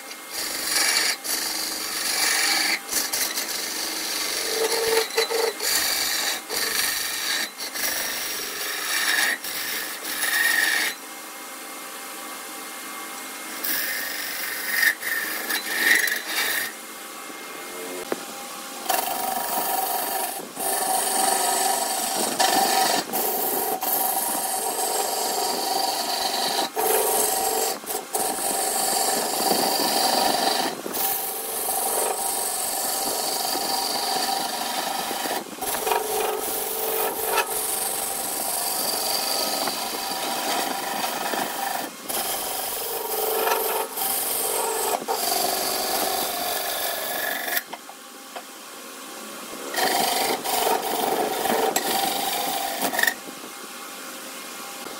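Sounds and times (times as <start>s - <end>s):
tool scraping turning wood: 0.0s - 11.0s, 13.6s - 16.8s, 18.8s - 47.8s, 49.7s - 53.3s
wood lathe humming: 0.0s - 11.0s, 13.5s - 16.8s, 18.8s - 47.8s, 49.7s - 53.3s.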